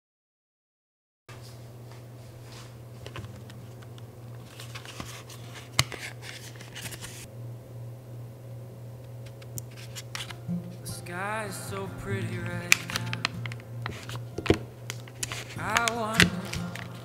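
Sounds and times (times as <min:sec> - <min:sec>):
low steady hum: 0:01.4 - 0:17.0.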